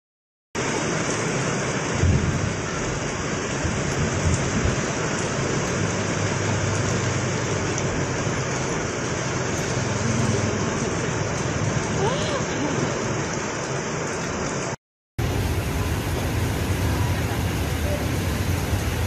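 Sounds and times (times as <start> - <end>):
heavy rain on floodwater: 0.6 - 19.0.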